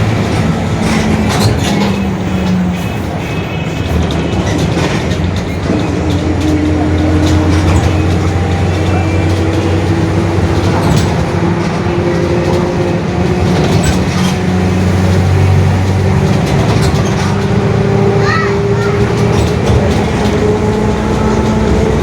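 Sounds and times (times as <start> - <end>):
bus differential howling: 0.0 - 22.0
bus engine and running noise: 0.0 - 22.0.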